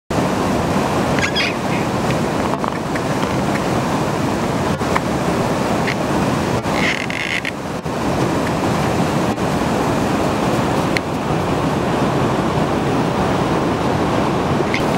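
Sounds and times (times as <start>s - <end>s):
river water rushing: 0.1s - 14.9s.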